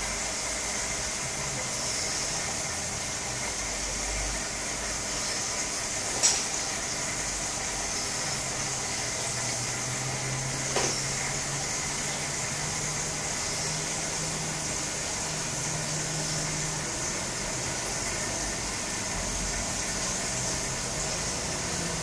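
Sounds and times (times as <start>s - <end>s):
aquarium equipment humming: 0.0s - 22.0s.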